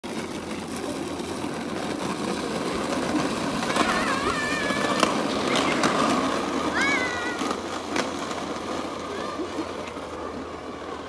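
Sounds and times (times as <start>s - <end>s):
plastic wheels rolling on concrete: 0.0s - 11.0s.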